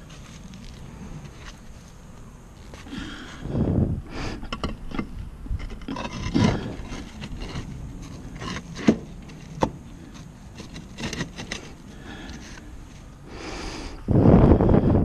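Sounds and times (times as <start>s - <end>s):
roof tiles scraping: 0.0s - 13.5s.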